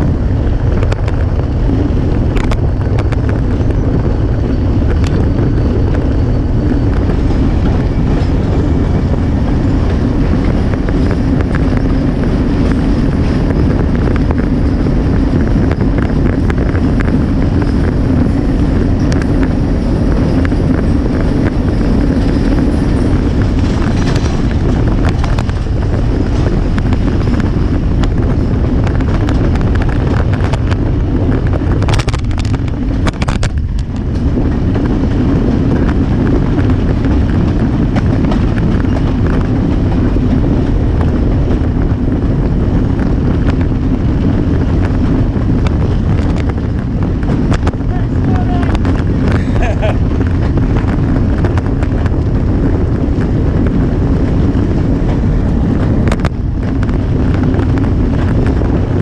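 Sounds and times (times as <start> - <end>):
train rumbling on rails: 0.0 - 59.0
wind rushing over microphone: 0.0 - 59.0.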